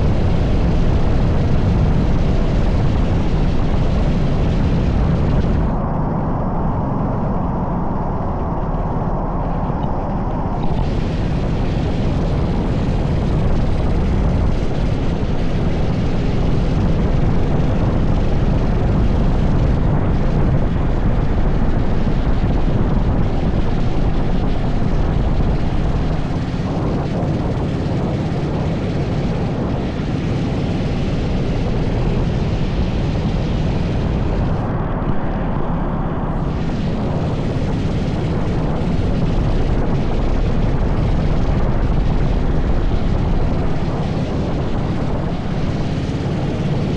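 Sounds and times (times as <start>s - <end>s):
wind noise on microphone: 0.0s - 46.9s
go-kart engine running: 8.4s - 46.9s.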